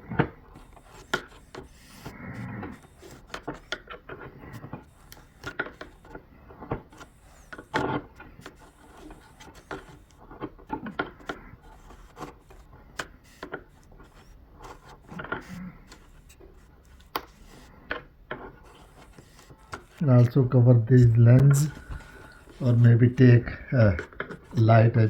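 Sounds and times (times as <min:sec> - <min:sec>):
screwdriver scraping plastic: 0:00.0 - 0:25.0.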